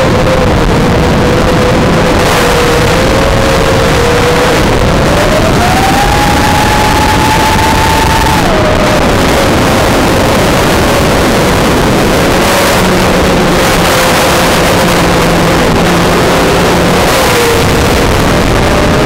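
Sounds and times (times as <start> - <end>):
drone motors buzzing whine: 0.0 - 19.0
rush of air: 0.0 - 19.0.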